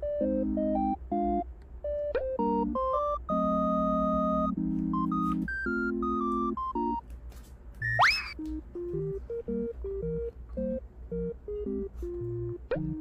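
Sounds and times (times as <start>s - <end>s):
bouncy electronic beeping tune: 0.0s - 7.0s, 7.8s - 13.0s.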